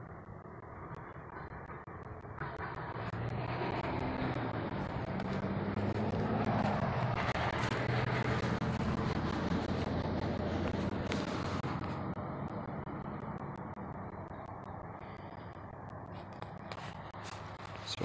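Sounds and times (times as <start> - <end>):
car driving past: 0.8 - 18.0.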